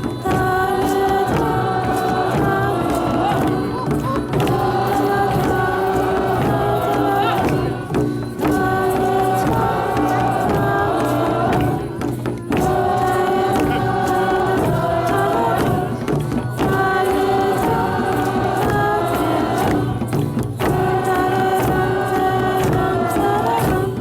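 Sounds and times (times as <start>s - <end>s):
choir singing long held notes: 0.0s - 24.0s.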